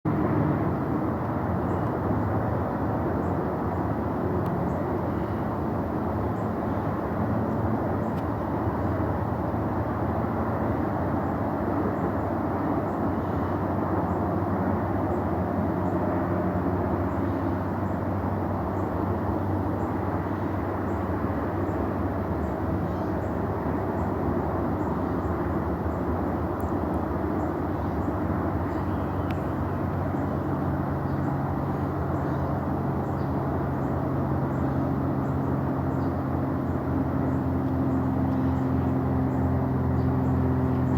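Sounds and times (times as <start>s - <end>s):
distant rocket engine rumble: 0.1s - 40.9s.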